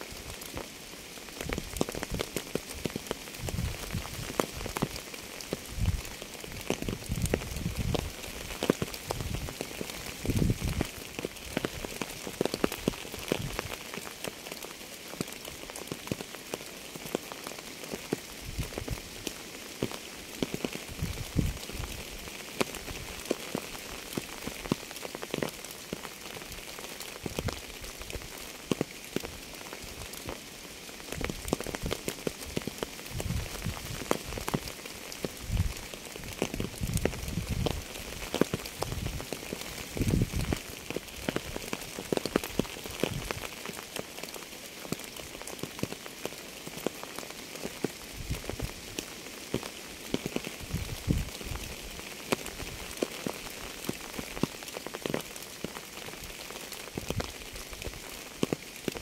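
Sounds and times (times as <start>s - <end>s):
steady rain: 0.0s - 59.0s
heavy raindrop hits: 1.3s - 14.6s, 15.2s - 59.0s.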